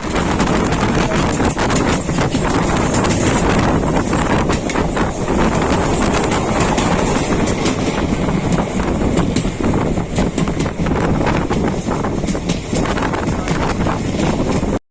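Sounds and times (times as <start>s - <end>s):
train rumbling at speed: 0.0s - 14.8s
wind buffeting microphone: 0.0s - 14.8s.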